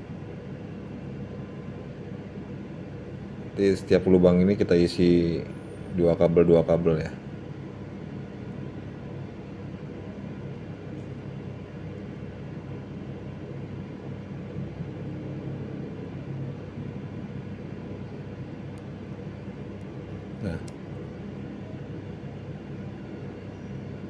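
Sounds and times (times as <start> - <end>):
low hum and rumble: 0.0 - 24.0.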